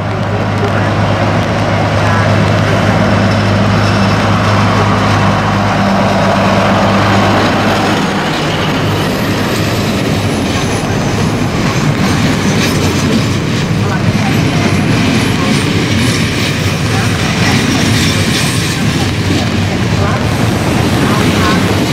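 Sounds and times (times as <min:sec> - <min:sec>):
diesel locomotive engine drone: 0:00.0 - 0:21.9
train coaches rumbling and clattering: 0:00.0 - 0:21.9.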